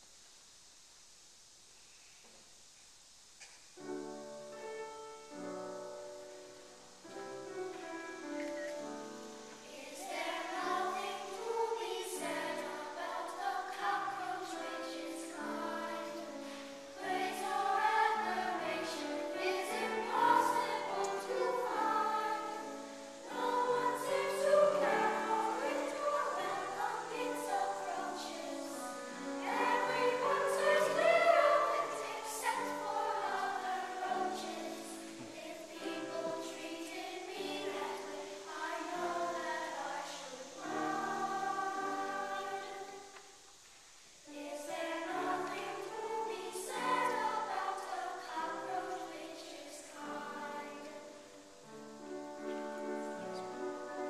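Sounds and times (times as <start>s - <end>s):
children's choir singing: 3.9s - 43.6s, 44.2s - 54.0s.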